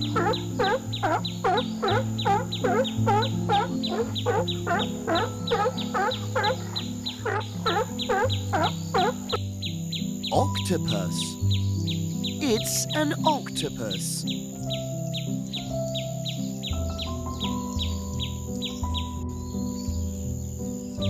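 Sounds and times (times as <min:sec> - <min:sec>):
rapid bird-like chirps: 0:00.0 - 0:21.0.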